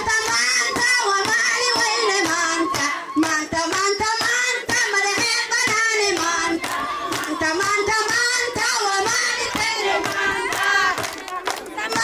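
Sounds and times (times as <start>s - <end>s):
high voices singing: 0.0s - 12.0s
rhythmic hand clapping: 0.0s - 12.0s.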